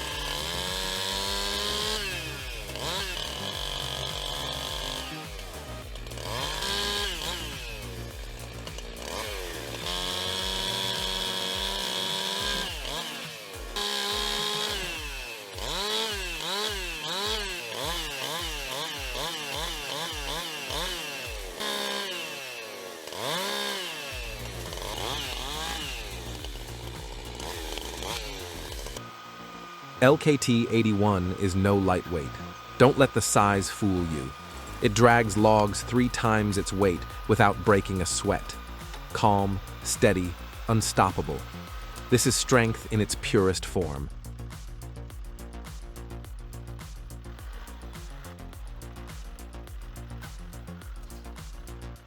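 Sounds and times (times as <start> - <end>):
chainsaw engine revving: 0.0 - 52.0.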